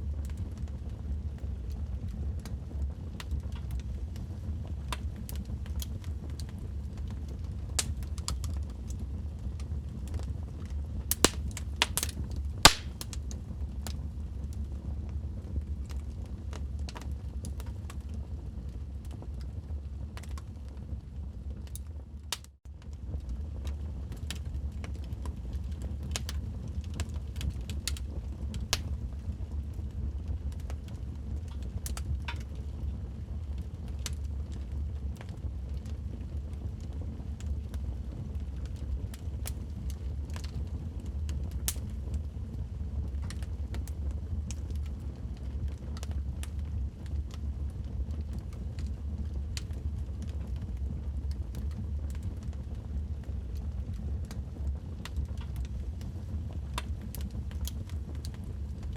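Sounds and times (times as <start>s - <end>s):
low fire rumble: 0.0s - 58.9s
logs crackling and popping: 0.1s - 42.2s, 43.0s - 58.9s.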